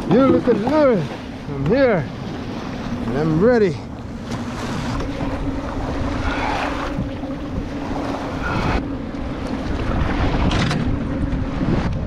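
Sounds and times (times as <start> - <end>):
small waves splashing: 0.0 - 11.5
wind rumble on microphone: 0.0 - 12.0.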